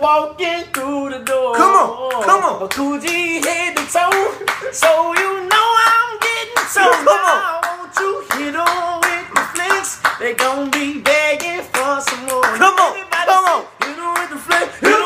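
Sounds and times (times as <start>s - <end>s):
men singing a cappella: 0.0s - 15.0s
hand claps: 0.7s - 15.0s.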